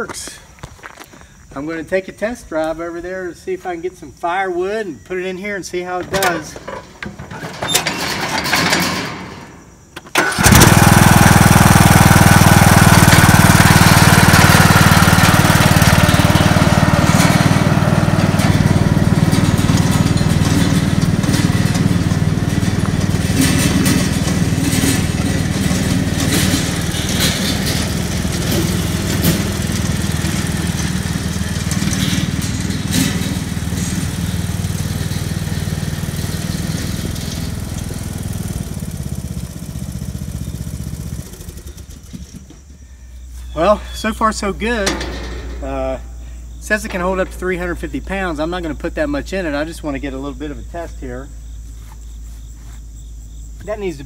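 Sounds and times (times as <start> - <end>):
lawn mower engine: 2.0 - 52.8.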